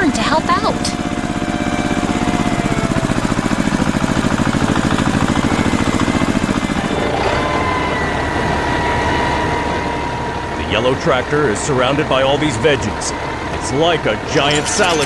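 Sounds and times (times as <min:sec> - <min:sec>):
tractor engine chugging: 0:00.0 - 0:07.2, 0:08.1 - 0:15.0.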